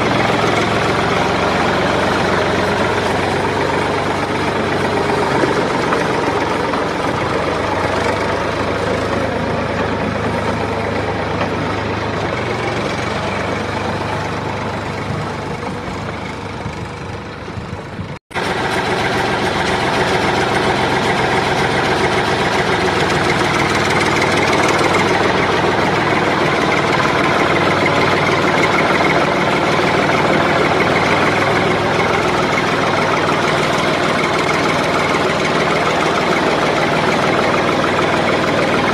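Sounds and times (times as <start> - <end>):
small tractor engine running: 0.0 - 38.9.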